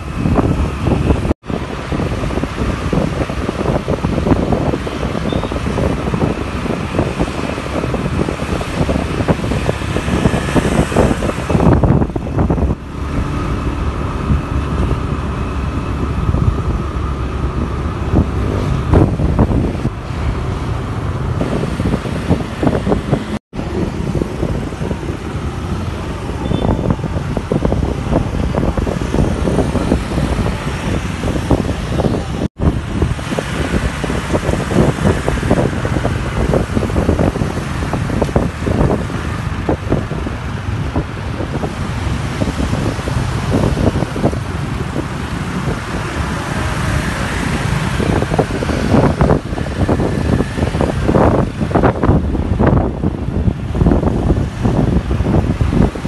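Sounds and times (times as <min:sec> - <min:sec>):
road noise: 0:00.0 - 0:56.0
wind buffeting microphone: 0:00.0 - 0:56.0.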